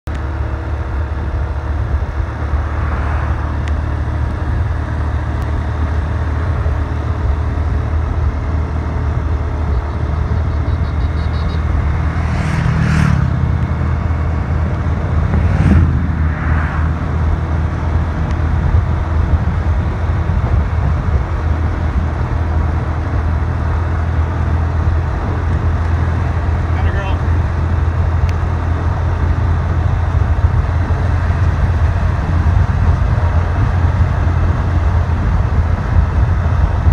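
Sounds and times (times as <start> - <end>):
wind and road noise: 0.0 - 36.9
motorcycles passing: 0.4 - 36.9.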